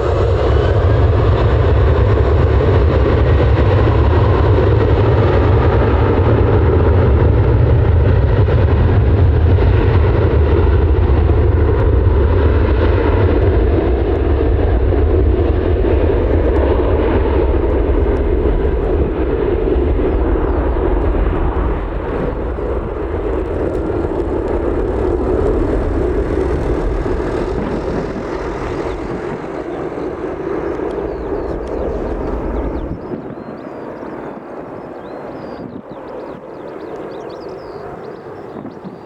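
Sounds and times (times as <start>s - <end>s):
aircraft engines rumbling: 0.0s - 39.0s.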